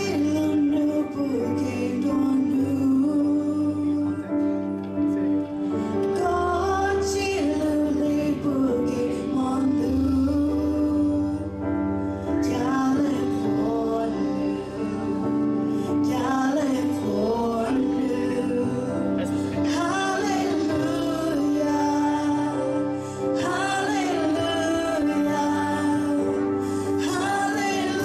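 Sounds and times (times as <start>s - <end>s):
voices singing worship song: 0.0s - 4.6s, 5.8s - 28.0s.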